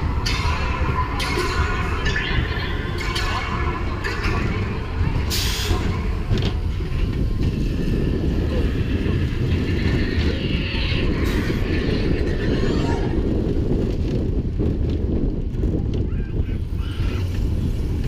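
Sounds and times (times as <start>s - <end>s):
roller coaster wheels rumbling: 0.0s - 18.0s.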